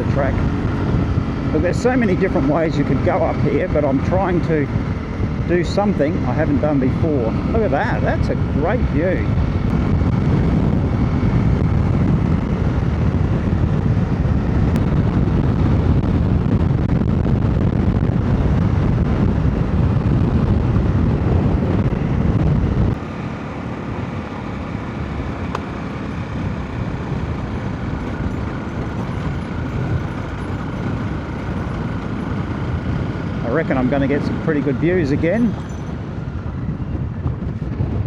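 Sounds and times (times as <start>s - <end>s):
motorcycle engine rumble: 0.0s - 38.0s.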